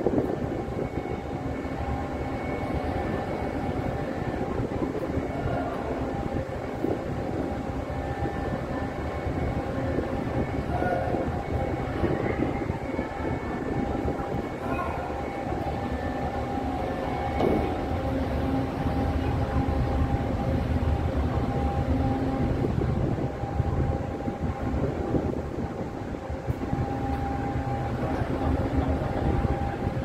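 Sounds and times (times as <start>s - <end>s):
droning hum: 0.0s - 30.0s
ship engines rumbling: 0.0s - 30.0s.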